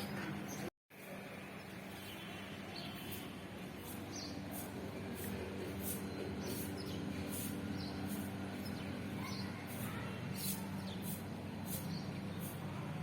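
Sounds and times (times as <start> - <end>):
birds chirping: 0.0 - 0.7, 1.6 - 12.7.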